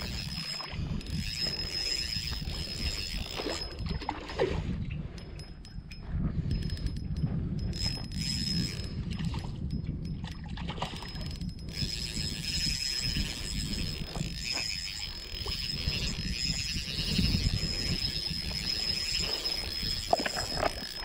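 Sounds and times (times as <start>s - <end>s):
fishing reel ticking: 0.0s - 21.0s.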